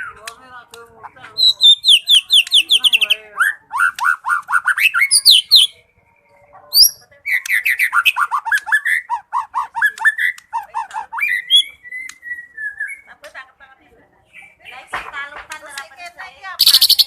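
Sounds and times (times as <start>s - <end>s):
songbird singing: 0.0s - 13.2s, 14.1s - 17.0s.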